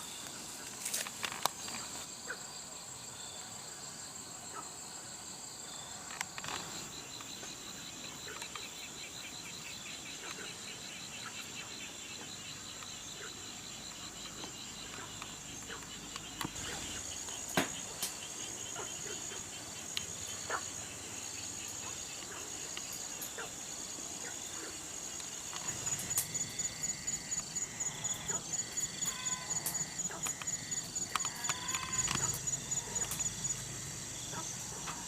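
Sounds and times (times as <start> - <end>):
insects chirping: 0.0 - 35.0
rhythmic pulsing insect call: 0.0 - 35.0.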